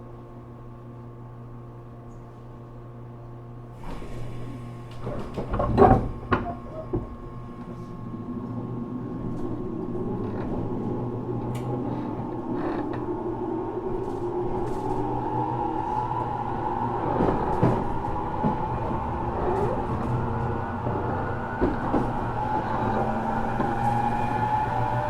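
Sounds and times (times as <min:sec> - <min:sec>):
train doors clunking shut: 0:03.8 - 0:15.5, 0:16.1 - 0:25.0
train running rumble: 0:03.8 - 0:25.0.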